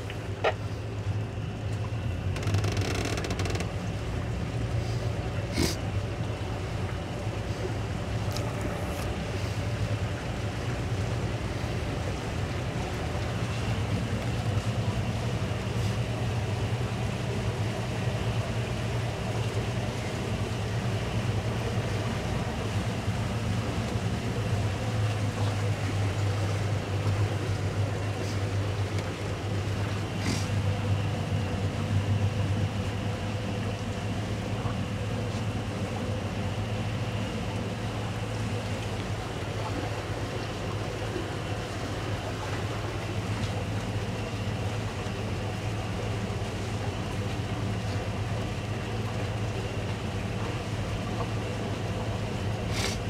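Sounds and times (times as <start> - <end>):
outboard engines droning: 0.0 - 53.0.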